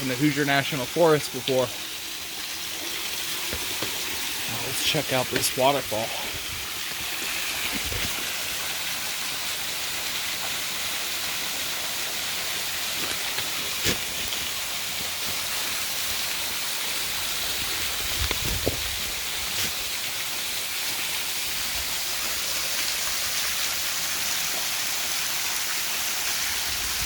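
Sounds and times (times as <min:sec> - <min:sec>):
waterfall rushing and splashing: 0:00.0 - 0:27.0.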